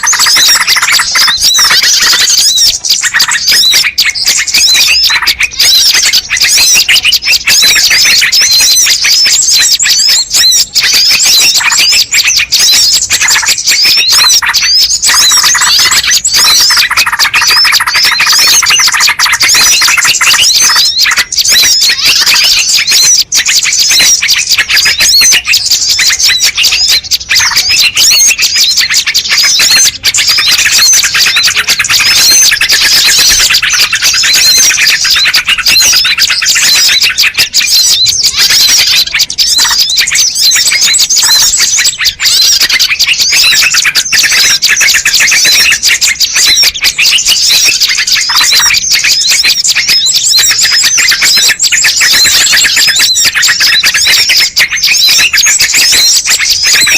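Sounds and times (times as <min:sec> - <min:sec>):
small birds chirping and twittering: 0:00.0 - 0:56.9.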